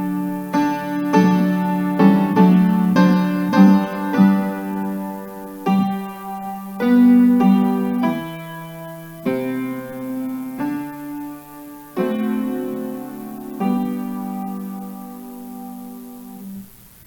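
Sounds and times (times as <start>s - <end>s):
piano playing slow chords: 0.0s - 16.8s.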